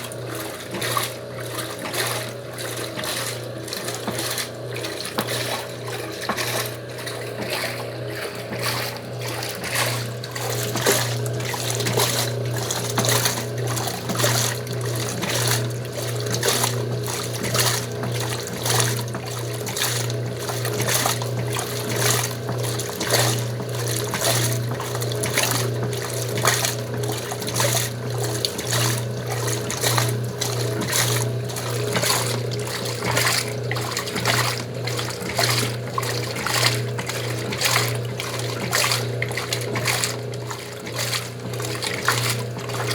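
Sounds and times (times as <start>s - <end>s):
low motor hum: 0.0s - 42.9s
water sloshing in washing machine: 0.0s - 42.9s.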